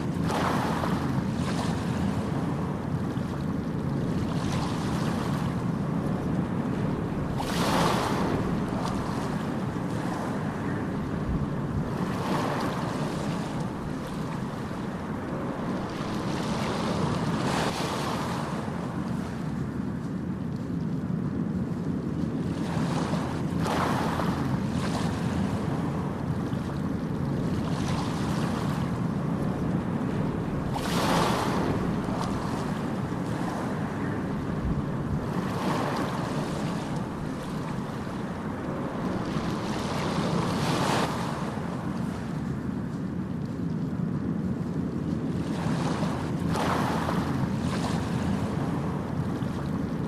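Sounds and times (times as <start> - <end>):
constant surf rumble: 0.0 - 50.0
waves breaking: 0.0 - 50.0.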